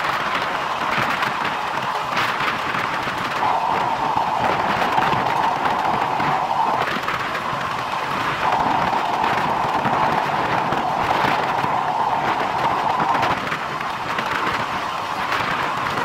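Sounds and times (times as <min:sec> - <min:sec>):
rumbling wind noise: 0:00.0 - 0:16.0
train wheels rolling on rails: 0:00.0 - 0:16.0.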